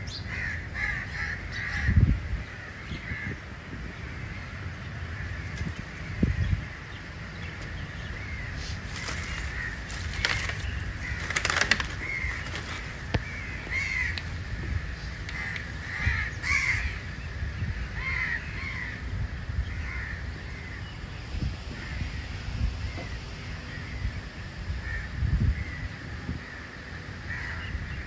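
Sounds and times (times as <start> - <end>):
birds calling: 0.0 - 28.0
harsh bird calls: 0.0 - 28.0
low steady rumble: 0.0 - 28.0.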